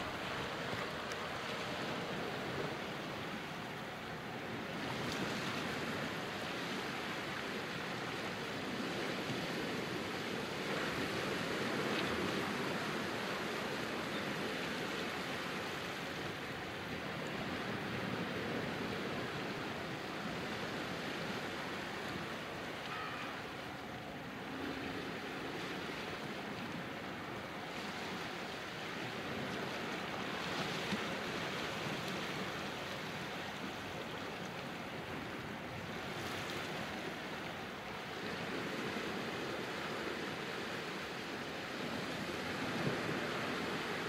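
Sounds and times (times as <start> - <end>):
surf washing over rocks: 0.0 - 44.0.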